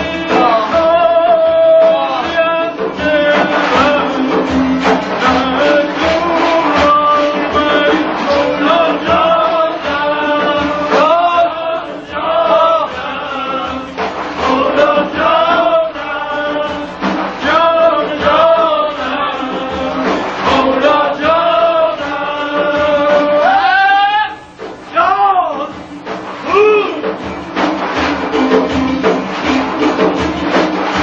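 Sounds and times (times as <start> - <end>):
men chanting devotional song: 0.0 - 27.3
rapid lute strumming: 0.0 - 31.0.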